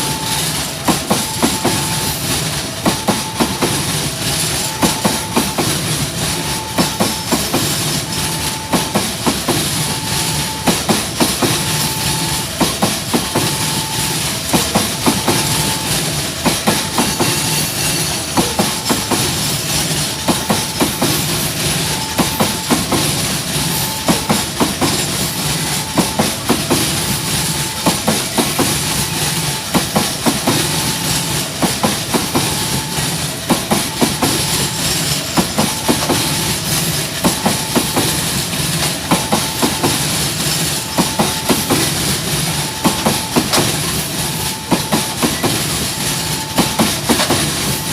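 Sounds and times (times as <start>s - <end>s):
train wheels clacking over rail joints: 0.0s - 47.9s.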